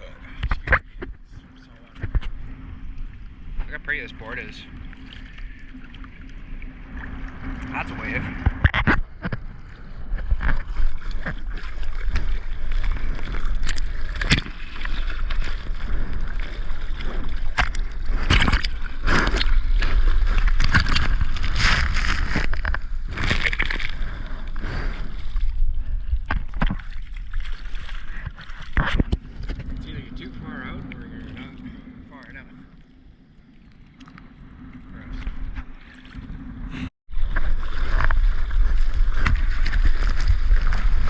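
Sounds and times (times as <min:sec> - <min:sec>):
deep rumble: 0:00.0 - 0:41.0
surf splashing and sloshing: 0:00.0 - 0:41.0.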